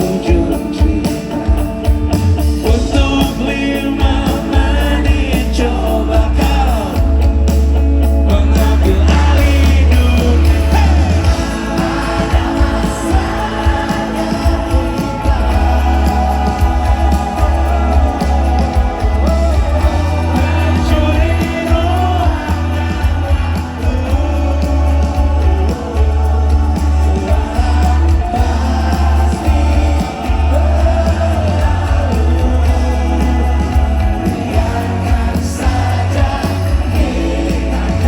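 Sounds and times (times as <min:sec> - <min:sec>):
person singing: 0:00.0 - 0:07.4, 0:08.2 - 0:38.0
live pop-rock band: 0:00.0 - 0:38.0.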